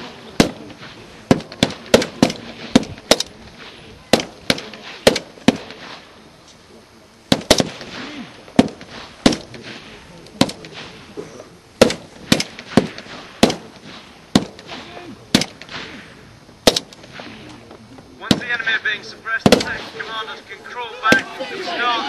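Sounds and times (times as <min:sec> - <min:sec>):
rifle shots with echo: 0:00.0 - 0:06.2, 0:07.3 - 0:11.1, 0:11.8 - 0:17.6, 0:18.2 - 0:20.3, 0:21.0 - 0:21.5.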